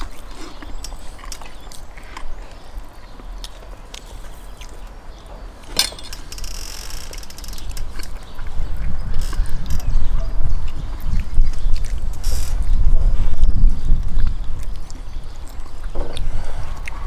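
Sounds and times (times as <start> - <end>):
chewing: 0.0 - 6.4, 7.0 - 17.0.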